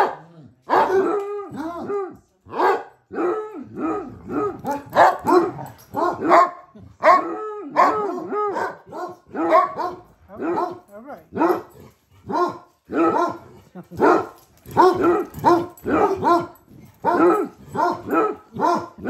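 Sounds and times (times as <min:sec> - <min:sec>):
dog barking: 0:00.0 - 0:19.0.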